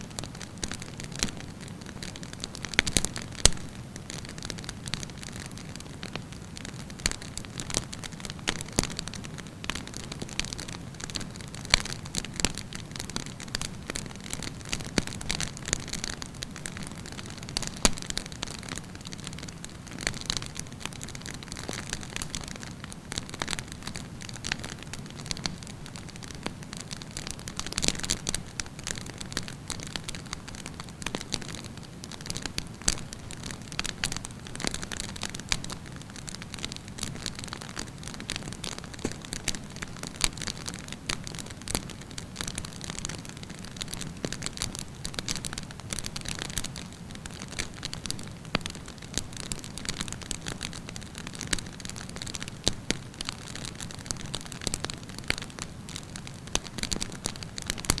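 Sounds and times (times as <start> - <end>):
wood fire crackling: 0.1 - 58.0.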